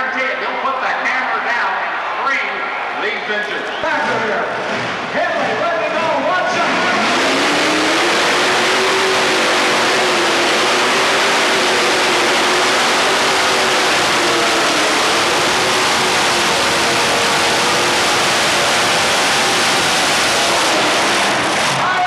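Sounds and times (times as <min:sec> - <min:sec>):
tractor engine screaming: 0:04.0 - 0:22.0.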